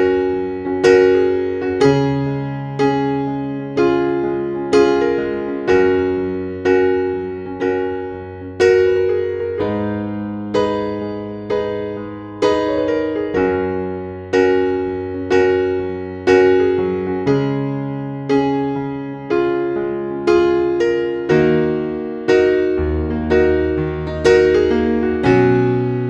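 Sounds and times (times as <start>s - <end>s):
gentle piano piece: 0.0s - 26.0s.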